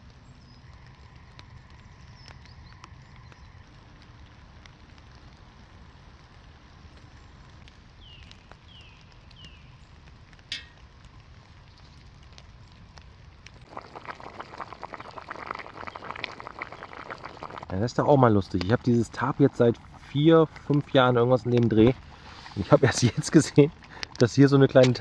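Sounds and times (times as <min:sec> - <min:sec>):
raindrop ticks: 0:00.0 - 0:25.0
stew bubbling at a boil: 0:00.0 - 0:25.0.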